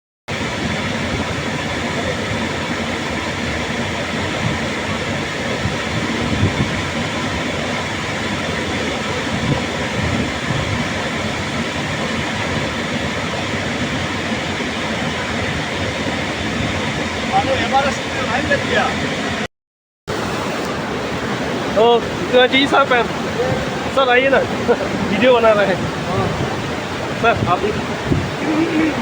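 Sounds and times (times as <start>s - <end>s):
waterfall rushing: 0.3s - 19.5s, 20.1s - 29.0s.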